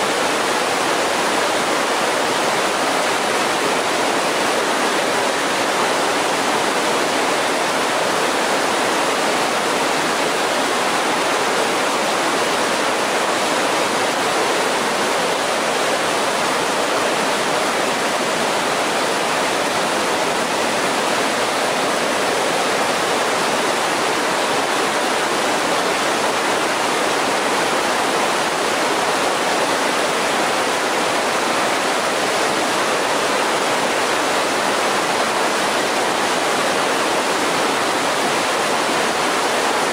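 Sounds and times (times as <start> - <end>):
creek rushing over boulders: 0.0 - 39.9.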